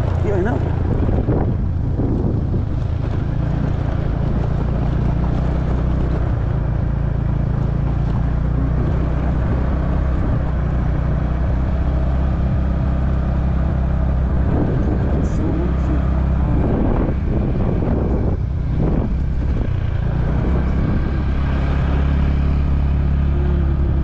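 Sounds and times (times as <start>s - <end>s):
motorcycle engine running: 0.0s - 24.0s
wind on microphone: 0.0s - 24.0s.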